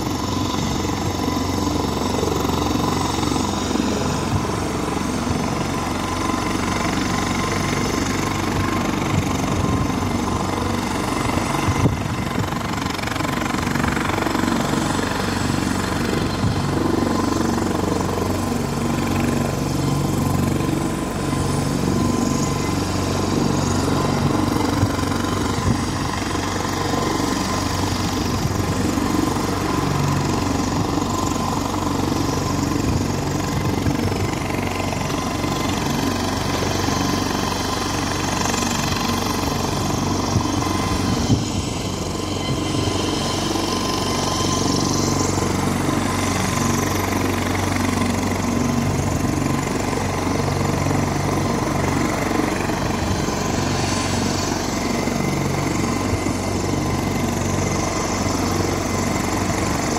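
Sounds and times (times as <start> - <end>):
faint high whine: 0.0 - 59.9
helicopter engine and rotor hum: 0.0 - 59.9.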